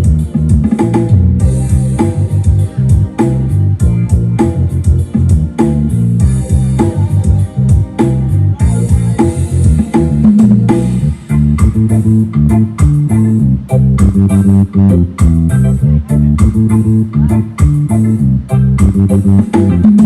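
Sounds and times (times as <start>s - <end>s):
bass guitar line: 0.0s - 20.0s
rock band music: 0.0s - 20.0s.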